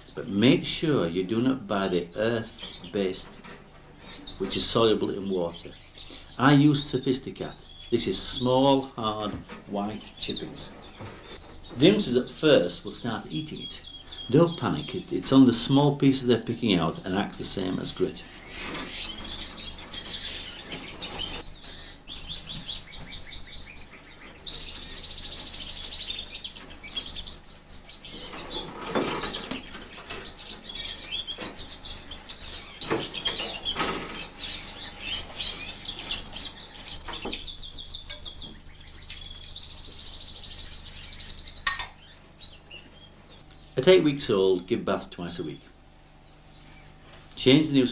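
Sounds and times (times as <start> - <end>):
canaries singing trills and chirps: 0.0 - 47.9.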